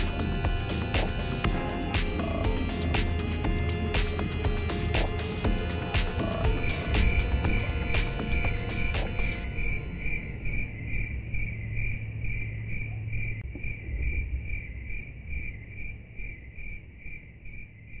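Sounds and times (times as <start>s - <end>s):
low hum: 0.0s - 17.8s
cricket chirping: 0.0s - 18.0s.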